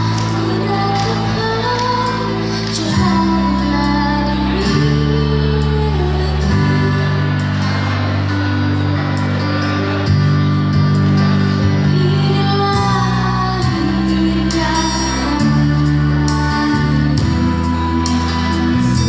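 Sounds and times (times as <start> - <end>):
woman singing pop ballad: 0.0 - 8.4, 11.4 - 19.0
instrumental backing track: 0.0 - 19.0.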